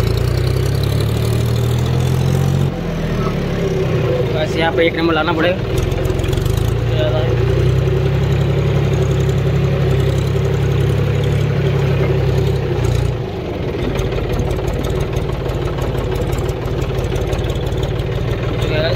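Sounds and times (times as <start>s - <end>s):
diesel tractor engine running: 0.0s - 18.9s.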